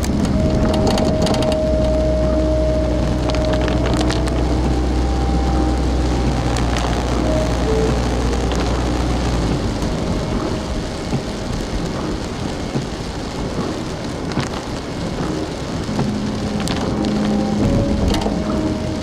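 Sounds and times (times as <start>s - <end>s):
low steady hum: 0.0s - 19.0s
rain pattering: 0.0s - 19.0s.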